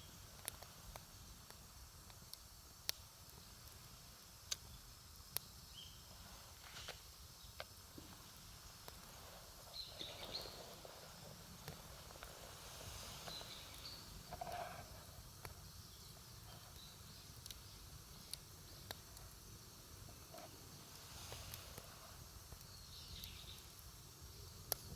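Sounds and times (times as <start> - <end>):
campfire crackling and popping: 0.1 - 24.9.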